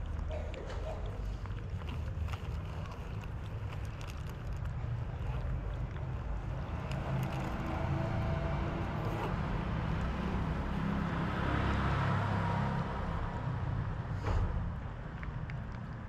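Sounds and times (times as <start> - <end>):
steady low street rumble: 0.0 - 16.0.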